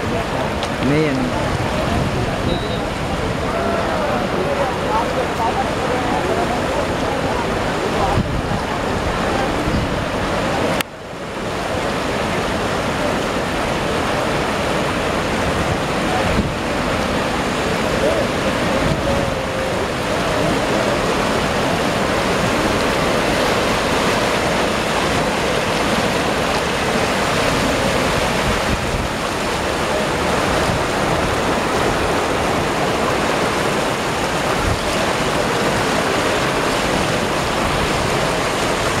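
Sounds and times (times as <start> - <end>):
river water rushing: 0.0 - 39.0.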